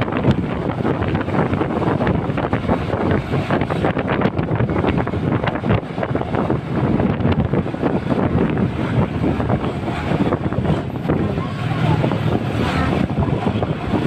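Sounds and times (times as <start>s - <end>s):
motorcycle ride rumble: 0.0s - 14.0s
wind buffeting microphone: 0.0s - 14.0s.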